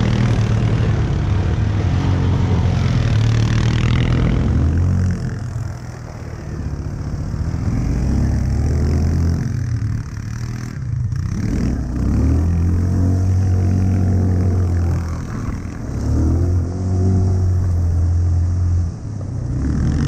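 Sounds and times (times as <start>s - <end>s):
quad bike engine revving: 0.0s - 18.3s, 19.3s - 20.0s.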